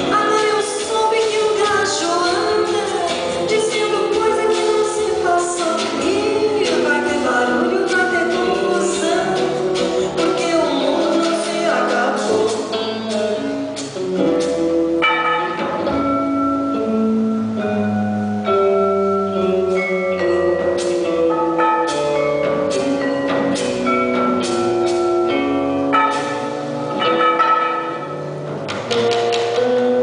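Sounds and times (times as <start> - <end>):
drum kit: 0.0 - 17.1, 18.6 - 30.0
electric guitar chords and melody: 0.0 - 30.0.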